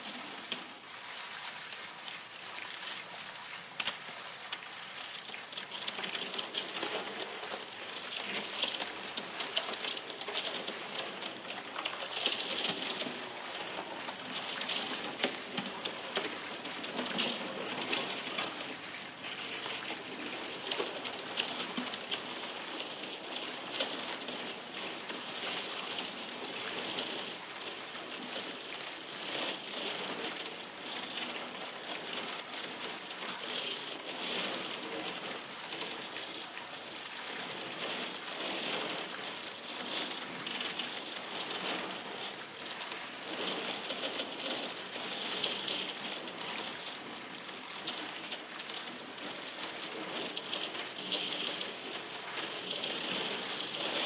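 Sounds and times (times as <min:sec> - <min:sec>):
processed ice crackling and fizzing: 0:00.0 - 0:54.0.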